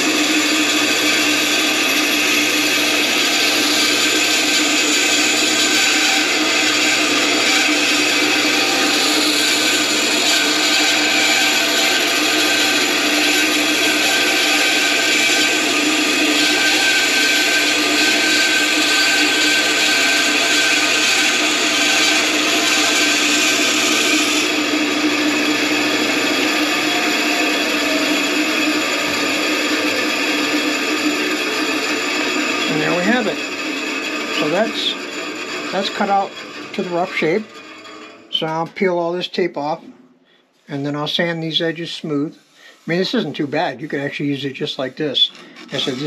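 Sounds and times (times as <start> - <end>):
band saw cutting plastic: 0.0 - 39.8, 40.8 - 46.0.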